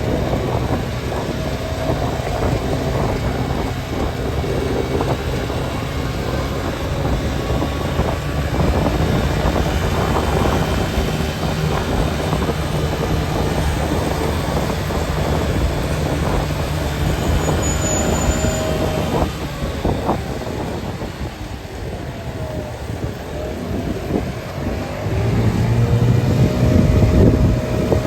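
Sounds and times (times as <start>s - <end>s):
vehicle driving on road: 0.0s - 28.0s.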